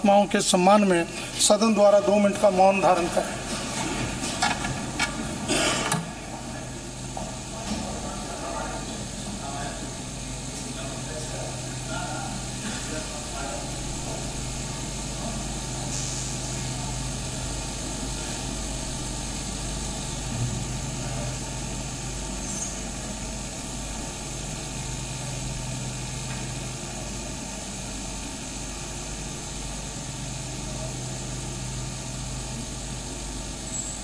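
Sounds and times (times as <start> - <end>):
low hum with hiss: 0.0 - 34.0.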